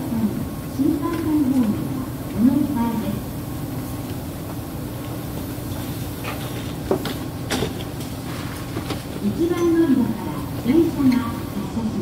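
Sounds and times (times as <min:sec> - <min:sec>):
train equipment humming: 0:00.0 - 0:12.0.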